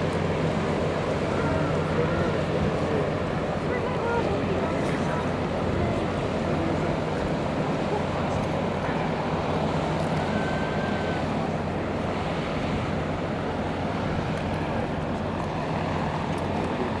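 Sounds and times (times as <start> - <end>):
rushing bow wave: 0.0 - 17.0
ship machinery hum: 0.0 - 17.0.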